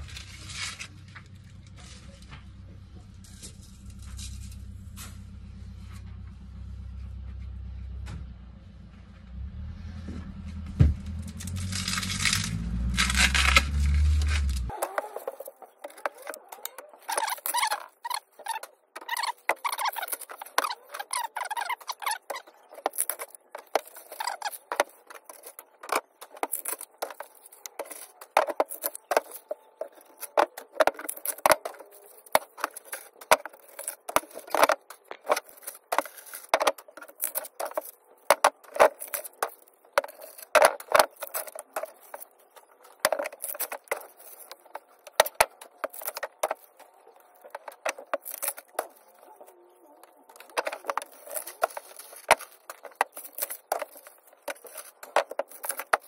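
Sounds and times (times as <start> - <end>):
metal wire strands clinking and scraping: 3.1 - 5.4, 11.3 - 56.0.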